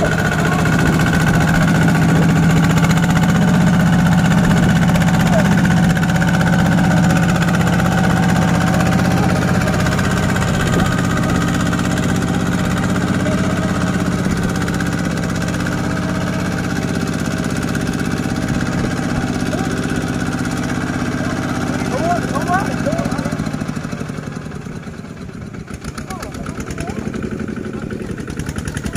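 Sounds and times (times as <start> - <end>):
diesel engine chugging: 0.0 - 28.9.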